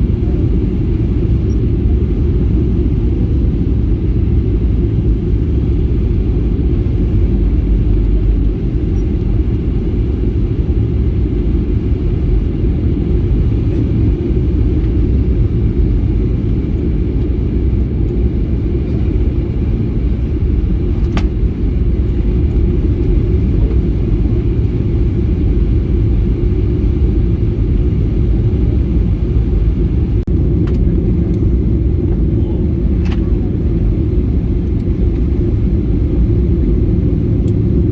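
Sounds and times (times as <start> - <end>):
airliner cabin engine rumble: 0.0 - 37.9.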